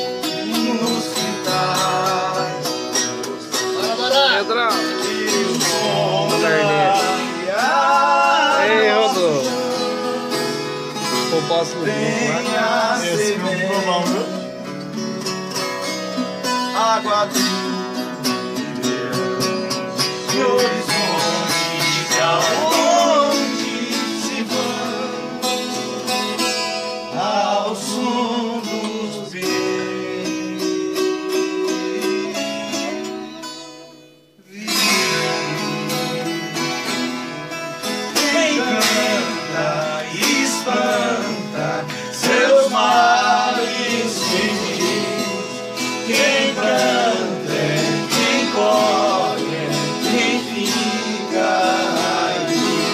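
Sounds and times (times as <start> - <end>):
person singing: 0.0 - 14.4, 16.7 - 25.8, 27.1 - 33.5, 34.4 - 52.9
viola and acoustic guitar playing: 0.0 - 52.9.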